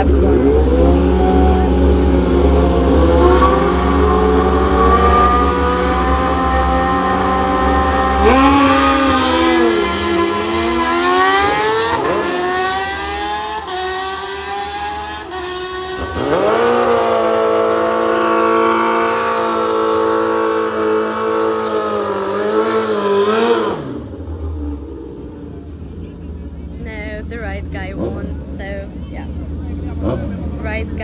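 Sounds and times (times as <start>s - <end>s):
racing car engines revving: 0.0s - 31.0s.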